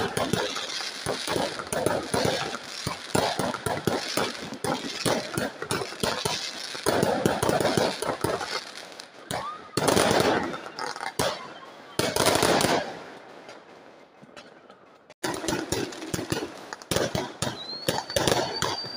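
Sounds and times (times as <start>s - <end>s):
fireworks bangs and crackles: 0.0s - 18.9s.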